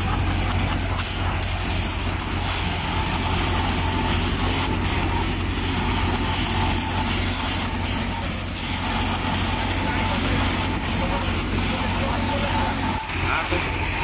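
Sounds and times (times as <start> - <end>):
faint machine whine: 0.0 - 14.0
grain thresher running: 0.0 - 14.0.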